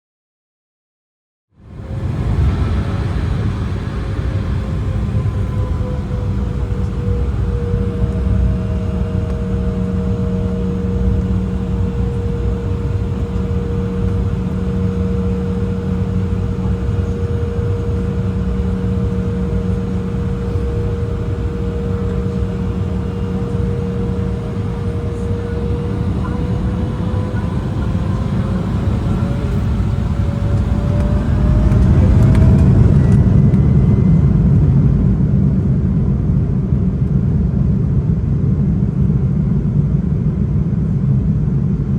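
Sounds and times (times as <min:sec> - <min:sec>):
jet engine whine in cabin: 0:01.6 - 0:41.9
low engine rumble: 0:01.6 - 0:41.9.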